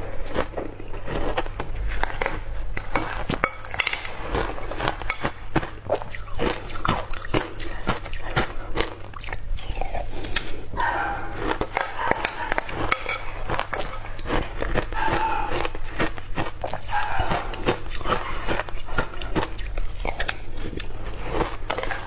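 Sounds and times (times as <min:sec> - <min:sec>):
ice crunching between teeth: 0:00.0 - 0:22.0
steady low hum: 0:00.0 - 0:22.0.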